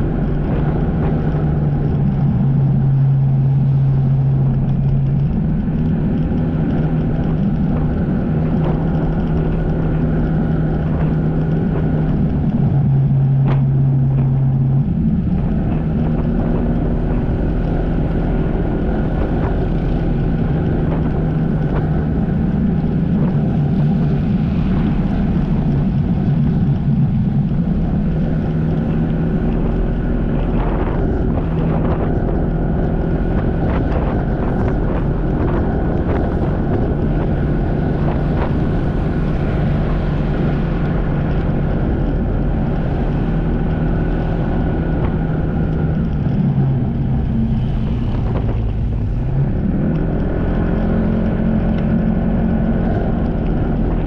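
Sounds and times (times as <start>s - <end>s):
jet ski engine: 0.0s - 54.0s
wind on microphone: 0.0s - 54.0s.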